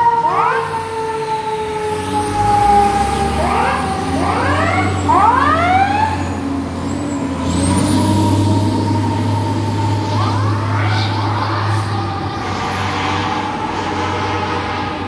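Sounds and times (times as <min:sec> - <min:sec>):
diesel engines running: 0:00.0 - 0:15.0
fire truck siren yelps: 0:00.0 - 0:15.0.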